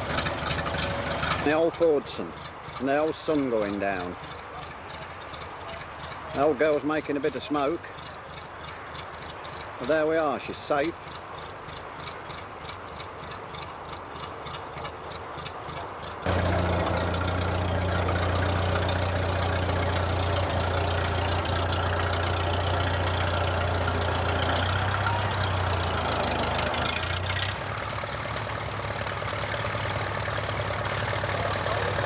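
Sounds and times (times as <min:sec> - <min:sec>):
tractor engine idling: 0:00.0 - 0:32.0.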